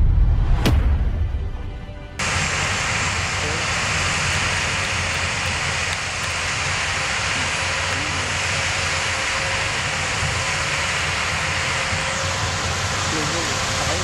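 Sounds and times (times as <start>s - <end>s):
bulldozer engines rumbling: 2.2s - 14.0s.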